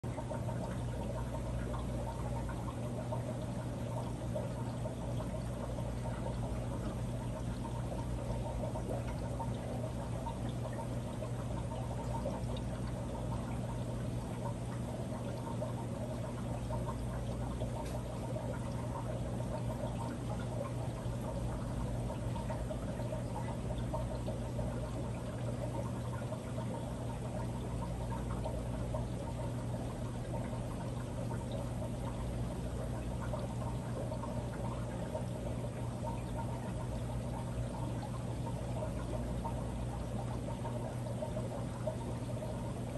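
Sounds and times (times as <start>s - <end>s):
low steady hum: 0.0s - 42.9s
water trickling into aquarium: 0.0s - 42.9s.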